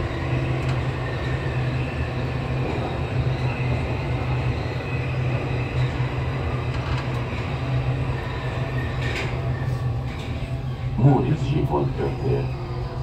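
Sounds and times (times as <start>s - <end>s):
train wheels rumbling in tunnel: 0.0s - 13.0s.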